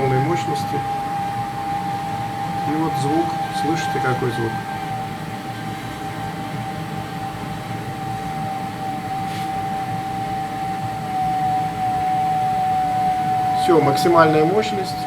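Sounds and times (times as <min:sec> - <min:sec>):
boiler high whistle: 0:00.0 - 0:15.0
gas burner running: 0:00.0 - 0:15.0.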